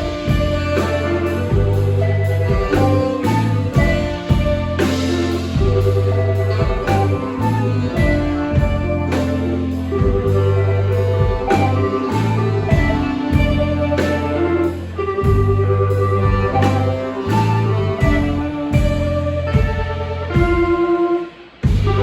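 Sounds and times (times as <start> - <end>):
live band playing instrumental: 0.0 - 22.0.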